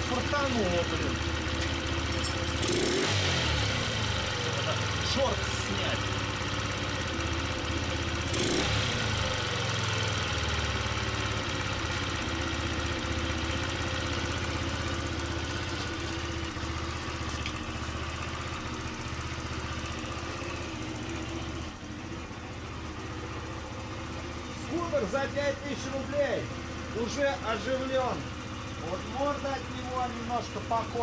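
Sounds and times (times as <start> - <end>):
scooter engine idling: 0.0 - 31.0.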